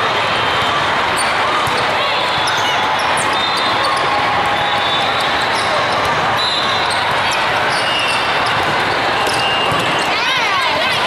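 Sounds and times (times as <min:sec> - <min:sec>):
crowd chatter in hall: 0:00.0 - 0:11.0
volleyballs hit and bouncing: 0:00.0 - 0:11.0.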